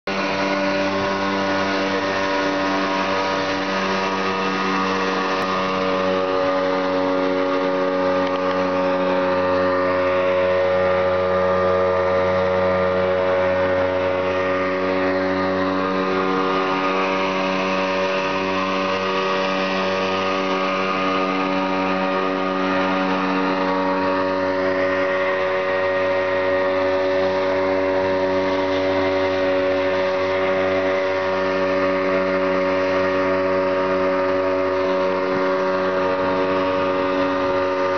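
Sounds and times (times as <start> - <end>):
outboard motor droning: 0.0 - 37.9
hull splashing through waves: 0.1 - 37.9.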